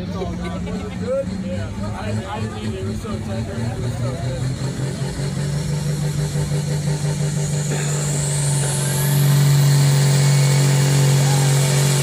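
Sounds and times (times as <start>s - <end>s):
vehicle engine at high power: 0.0s - 12.0s.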